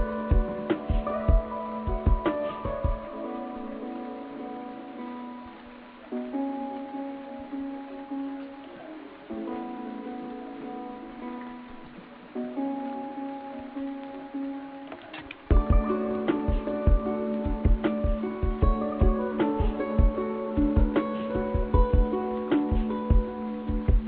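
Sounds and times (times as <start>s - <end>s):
background music: 0.0s - 24.0s.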